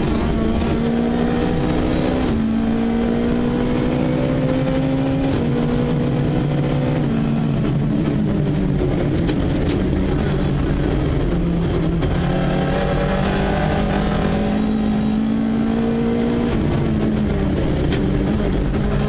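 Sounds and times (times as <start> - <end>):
rally car engine under load: 0.0 - 19.0.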